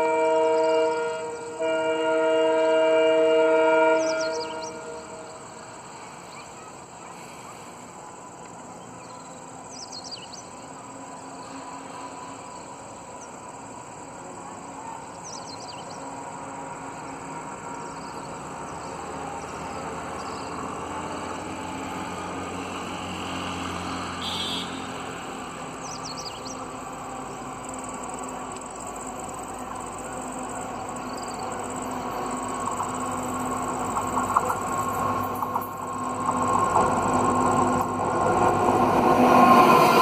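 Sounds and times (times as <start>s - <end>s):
diesel train rumbling: 0.0s - 40.0s.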